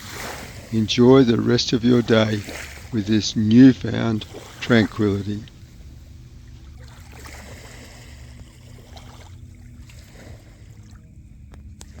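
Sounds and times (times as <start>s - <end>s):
waves lapping at shore: 0.0s - 12.0s.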